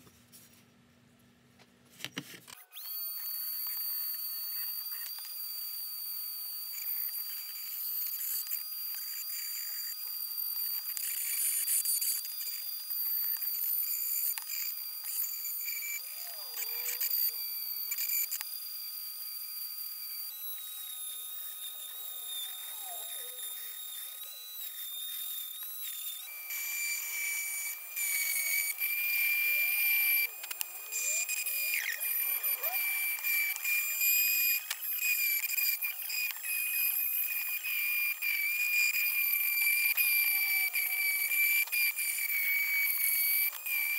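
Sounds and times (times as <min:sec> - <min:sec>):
rotary tool whining: 0:02.5 - 0:43.9.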